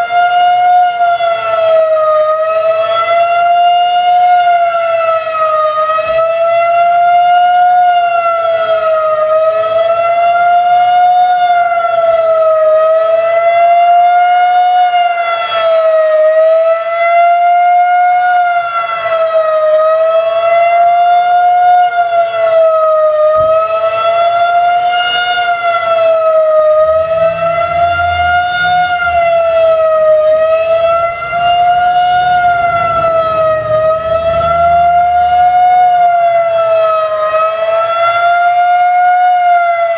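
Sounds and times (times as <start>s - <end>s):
wavering warning siren: 0.0s - 39.9s.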